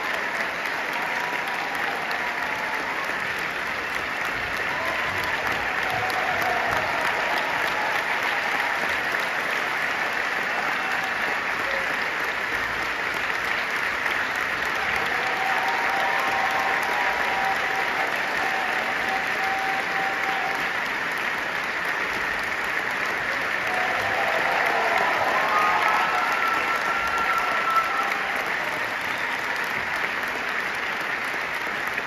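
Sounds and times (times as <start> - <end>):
large audience applauding: 0.0 - 32.0.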